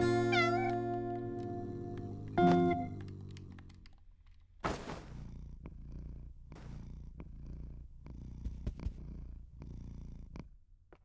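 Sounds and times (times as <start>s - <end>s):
cat purring: 0.1s - 4.0s, 4.7s - 11.0s.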